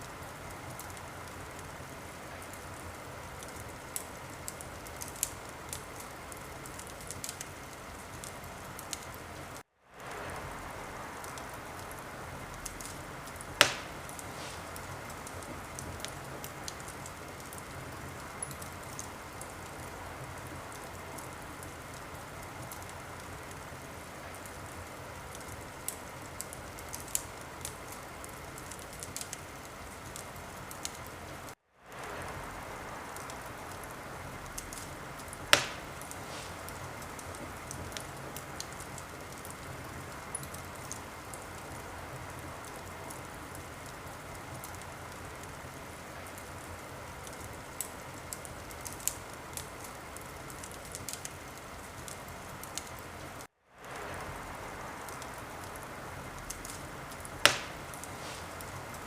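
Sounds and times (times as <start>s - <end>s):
loud fire pops: 0.0s - 59.0s
steady hiss: 0.0s - 59.0s
wood fire crackling: 0.0s - 59.0s.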